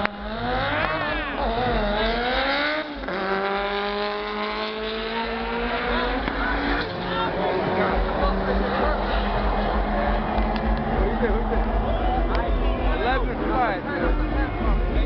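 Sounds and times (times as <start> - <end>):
car engine revving at full throttle: 0.0 - 15.0.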